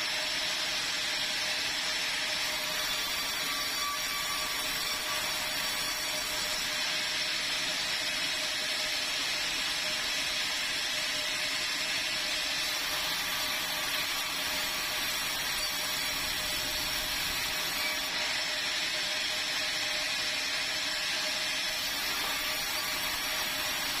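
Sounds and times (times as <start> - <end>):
sawmill saw hissing: 0.0 - 24.0.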